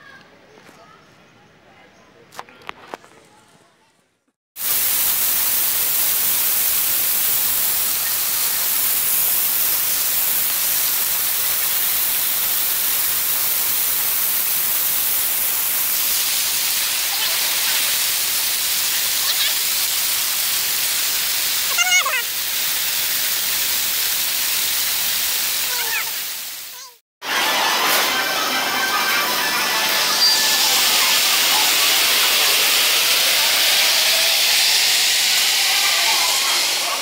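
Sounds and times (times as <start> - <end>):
fountain water splashing: 4.6 - 27.6, 28.6 - 37.0.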